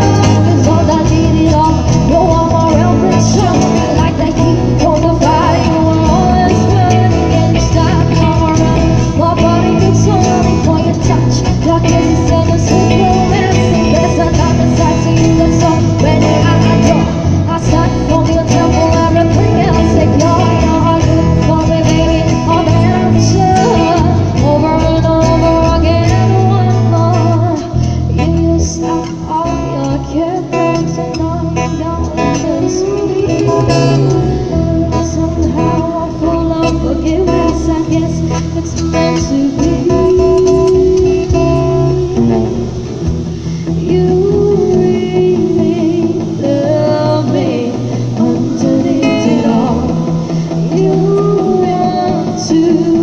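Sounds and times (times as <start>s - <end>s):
drums: 0.0s - 53.0s
electric guitars: 0.0s - 53.0s
woman singing into microphone: 0.0s - 53.0s.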